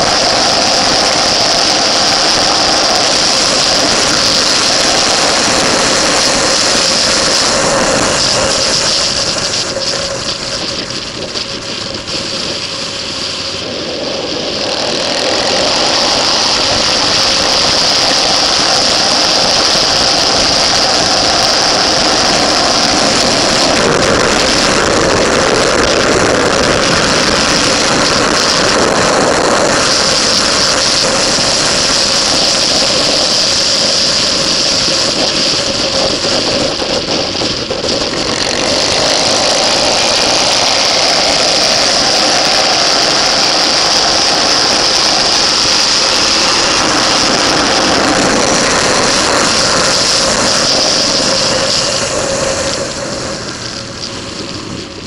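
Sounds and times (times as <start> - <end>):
motorcycle engine running hard: 0.0 - 55.0
wind rushing over microphone: 0.0 - 55.0.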